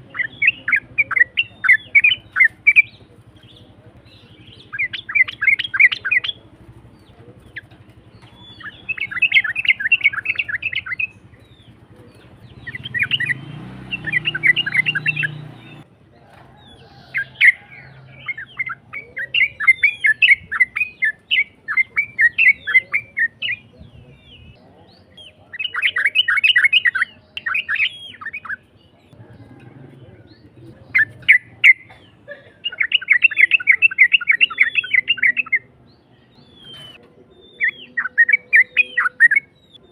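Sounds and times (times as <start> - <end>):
bulbul singing chattering notes: 0.0 - 15.9, 17.1 - 29.2, 30.3 - 39.9.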